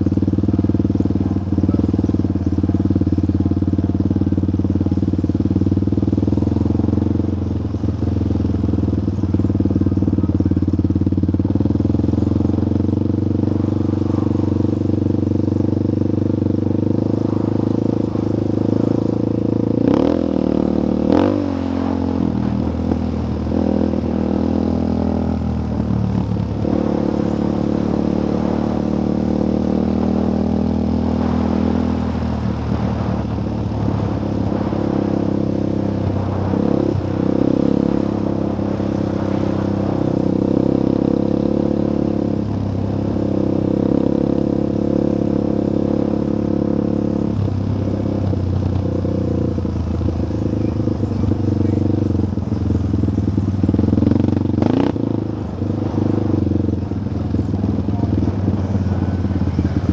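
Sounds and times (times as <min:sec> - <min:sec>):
dirt bike engine revving: 0:10.1 - 0:59.9.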